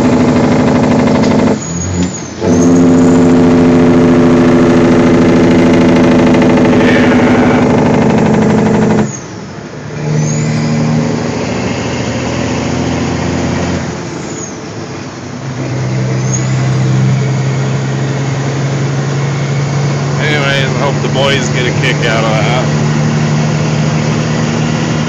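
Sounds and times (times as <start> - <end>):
heavy truck engine running: 0.0 - 25.0.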